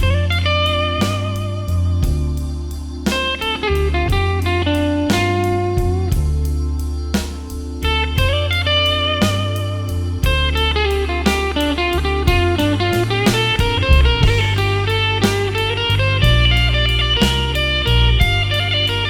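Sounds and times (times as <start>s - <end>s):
electric guitar: 0.0s - 6.6s, 7.2s - 19.0s
electric blues band playing: 0.0s - 19.0s.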